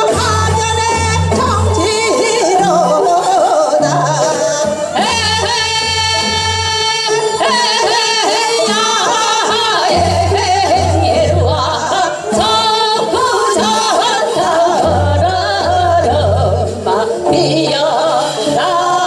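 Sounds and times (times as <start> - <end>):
women singing through pa: 0.0 - 19.0.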